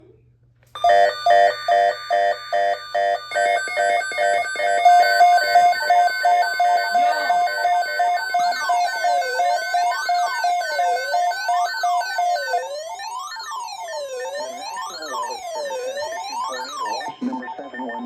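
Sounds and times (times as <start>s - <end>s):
electronic alarm beeping: 0.8s - 18.0s
sweeping up-and-down tones: 2.6s - 18.0s.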